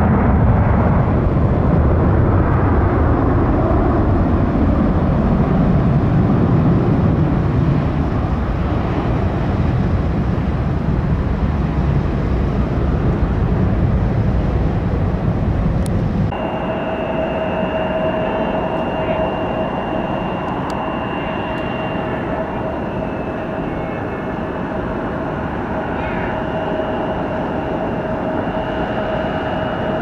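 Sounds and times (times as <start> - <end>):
jet engine whine: 0.0 - 30.0
jet engines rumbling: 0.0 - 30.0.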